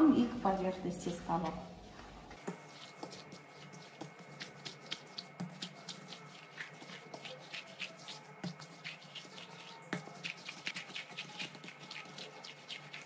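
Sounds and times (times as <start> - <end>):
hands kneading dough: 2.3 - 13.0.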